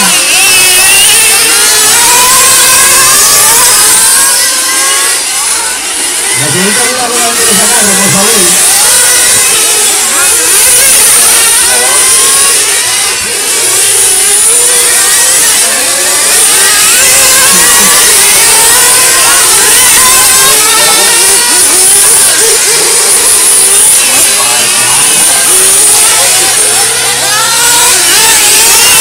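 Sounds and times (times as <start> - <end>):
rc car engines revving: 0.0 - 29.0.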